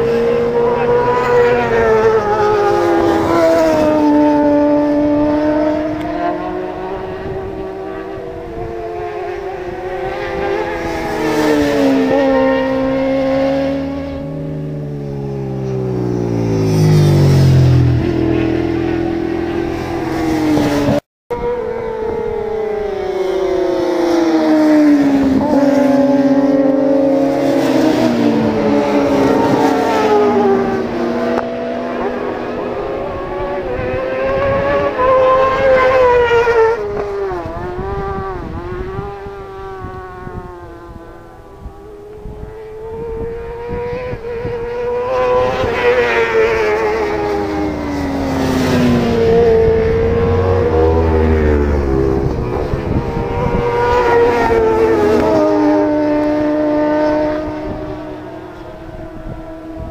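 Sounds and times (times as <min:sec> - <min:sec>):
racing motorcycle engines revving: 0:00.0 - 0:59.9.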